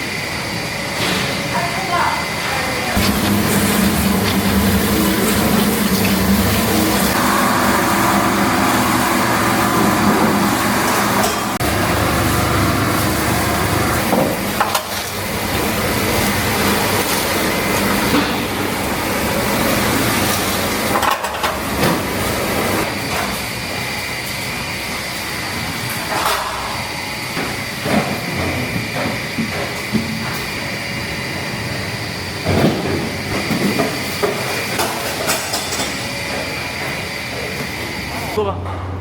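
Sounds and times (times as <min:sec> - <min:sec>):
processing machinery running: 0:00.0 - 0:39.0.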